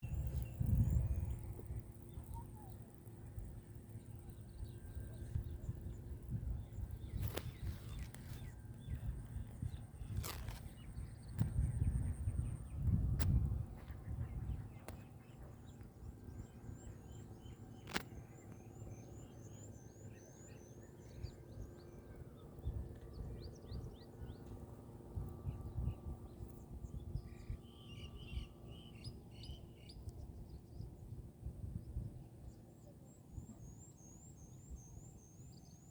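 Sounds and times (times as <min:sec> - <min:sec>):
small birds chirping: 0:00.0 - 0:31.0
low rumble of wind: 0:00.0 - 0:35.9.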